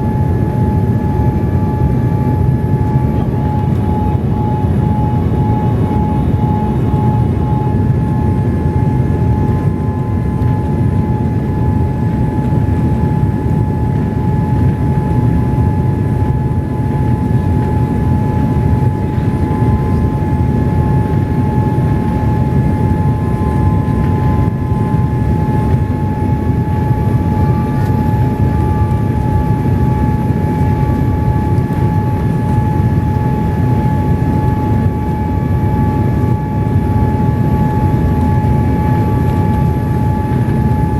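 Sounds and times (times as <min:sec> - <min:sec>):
constant thin whine: 0:00.0 - 0:40.9
jet engine and airflow roar: 0:00.0 - 0:40.9.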